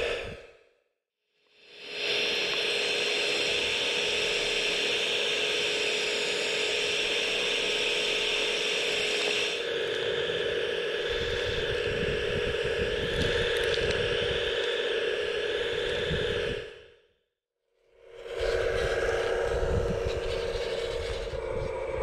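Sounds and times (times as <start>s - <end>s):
vacuum fan whirring whine: 0.0s - 0.5s, 1.5s - 17.0s, 18.0s - 22.0s.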